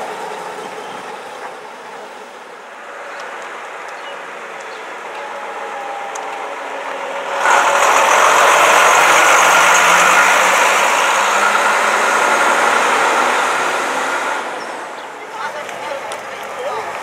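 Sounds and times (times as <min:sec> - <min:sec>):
coach engine driving past: 0:00.0 - 0:17.0.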